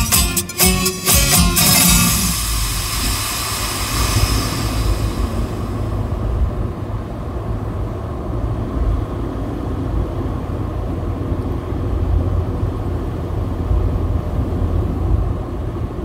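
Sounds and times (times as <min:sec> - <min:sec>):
car engine and tyre rumble: 0:02.4 - 0:16.0.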